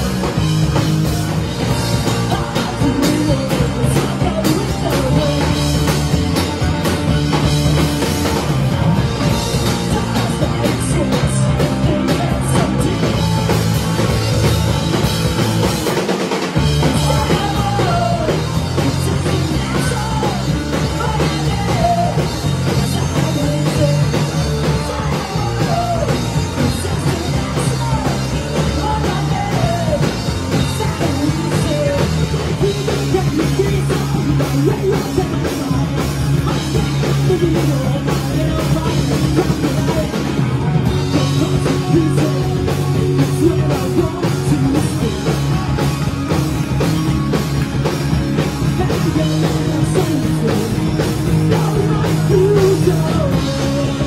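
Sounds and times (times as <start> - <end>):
loud rock band: 0.0 - 54.0.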